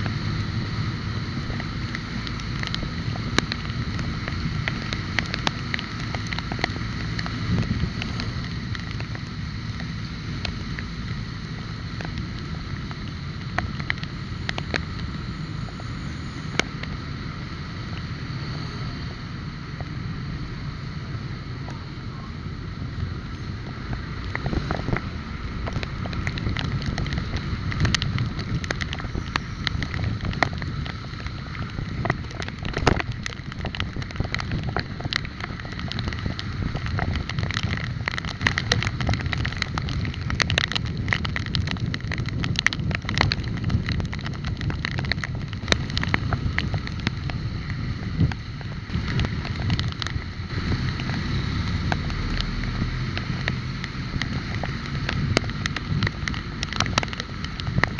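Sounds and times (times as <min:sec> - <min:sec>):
wind buffeting microphone: 0:00.0 - 0:18.2, 0:19.2 - 0:57.9
road noise: 0:00.0 - 0:57.9.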